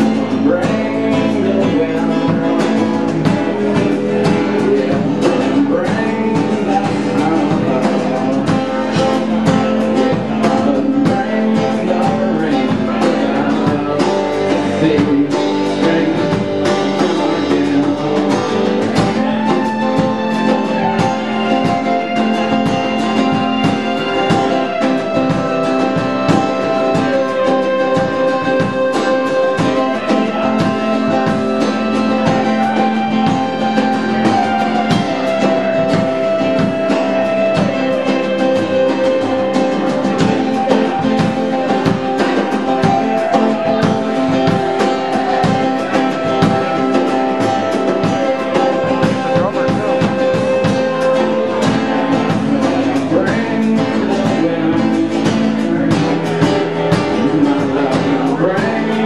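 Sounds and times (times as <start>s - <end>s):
band playing instrumental: 0.0s - 59.0s
drum kit: 0.0s - 59.0s
guitars: 0.0s - 59.0s.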